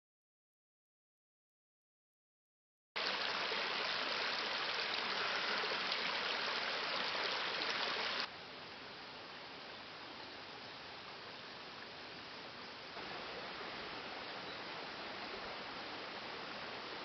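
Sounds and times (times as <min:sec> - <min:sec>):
steady water noise: 0:03.0 - 0:17.0.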